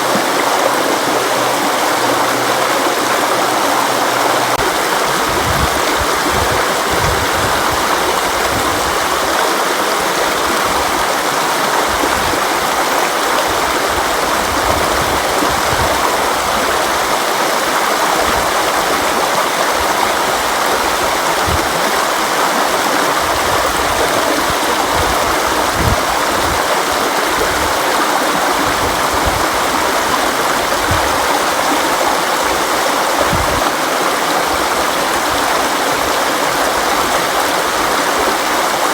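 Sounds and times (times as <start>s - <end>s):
river water rushing: 0.0s - 38.9s
small water splashes and gurgles: 0.0s - 38.9s.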